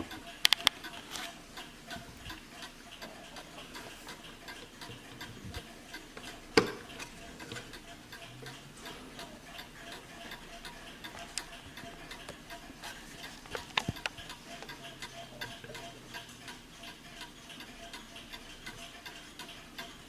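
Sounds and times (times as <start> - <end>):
clock ticking: 0.0 - 20.0.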